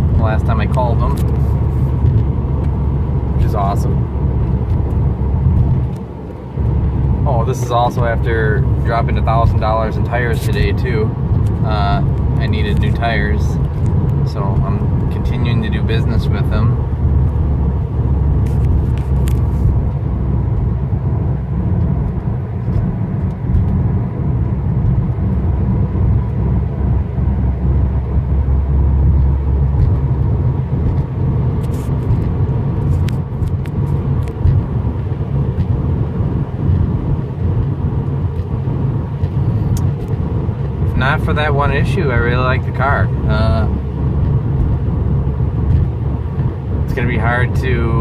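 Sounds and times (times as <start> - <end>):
road and engine rumble in car: 0.0 - 48.0.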